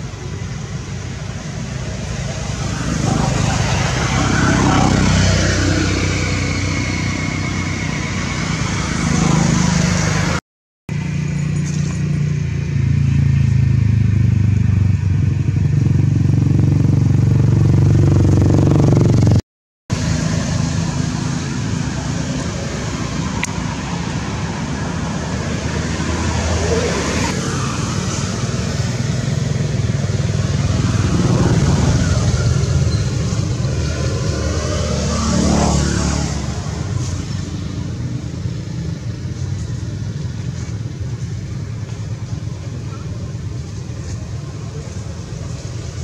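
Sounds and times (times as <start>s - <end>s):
engine humming: 0.0s - 46.0s.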